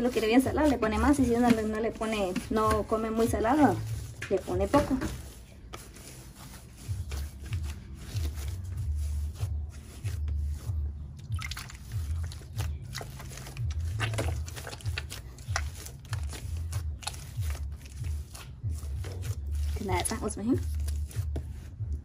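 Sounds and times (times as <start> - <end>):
wet dough squishing: 0.0 - 22.0.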